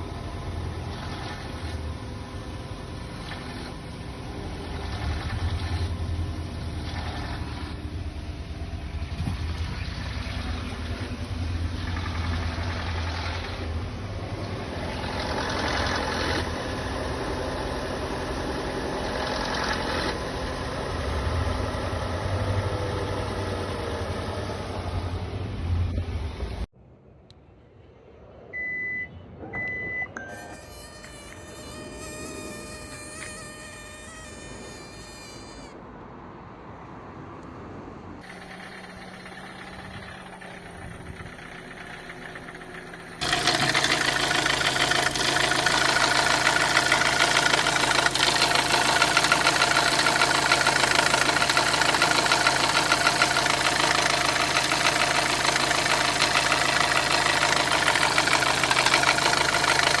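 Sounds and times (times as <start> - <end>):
car engine starting and idling: 0.0 - 26.6, 38.2 - 60.0.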